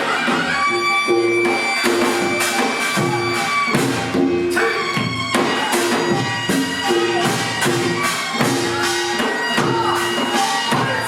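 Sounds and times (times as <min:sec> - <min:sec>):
percussion steady beat: 0:00.0 - 0:11.0
sustained melodic instrument: 0:00.0 - 0:11.0.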